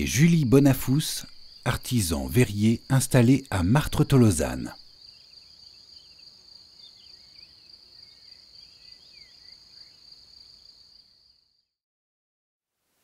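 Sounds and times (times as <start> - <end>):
crickets trilling: 0.0 - 11.6.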